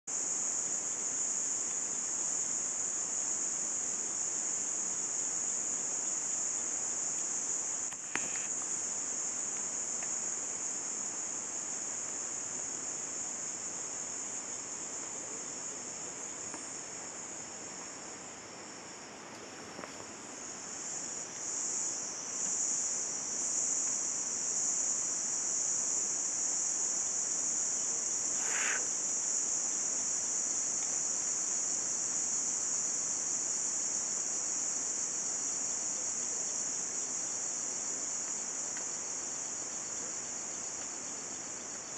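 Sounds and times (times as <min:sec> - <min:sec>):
insects chorus drone: 0:00.1 - 0:41.9.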